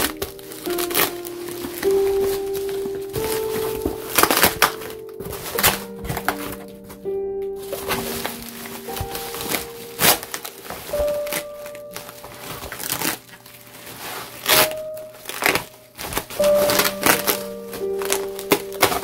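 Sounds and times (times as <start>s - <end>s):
background music with held notes: 0.0s - 19.0s
bubble wrap crinkling: 0.0s - 19.0s.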